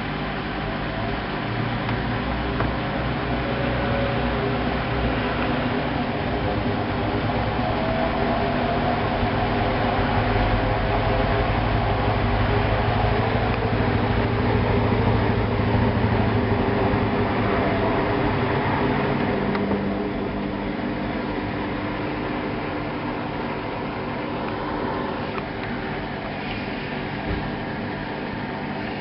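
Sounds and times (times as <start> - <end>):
washing machine spin hum: 0.0 - 29.0.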